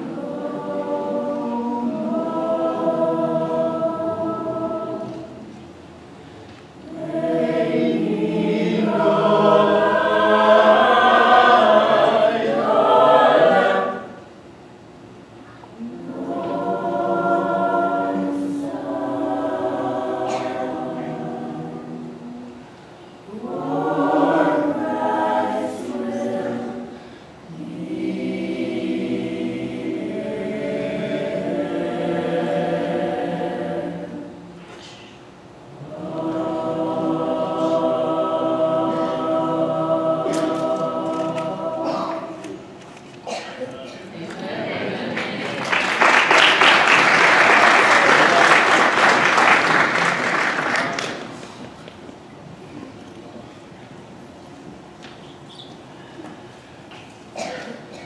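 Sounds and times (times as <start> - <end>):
choir singing unaccompanied: 0.0 - 5.7, 6.8 - 14.3, 15.8 - 34.6, 35.6 - 43.4, 44.1 - 51.4.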